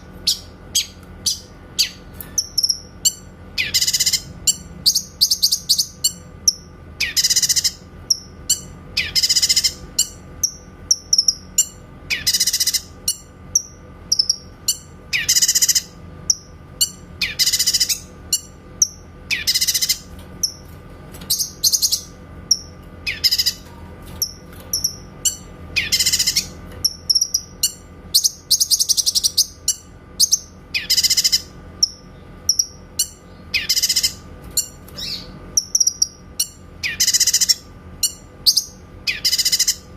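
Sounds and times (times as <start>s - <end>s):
bird rapid high-pitched call: 0.0s - 20.6s, 21.3s - 23.6s, 24.2s - 39.9s.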